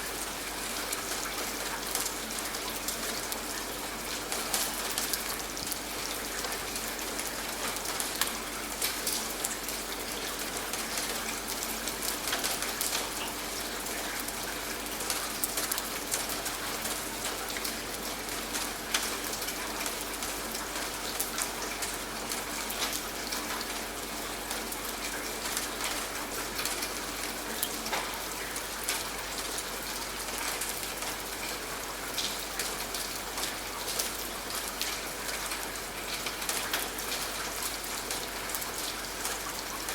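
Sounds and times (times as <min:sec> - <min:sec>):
rain drops striking surface: 0:00.0 - 0:39.9.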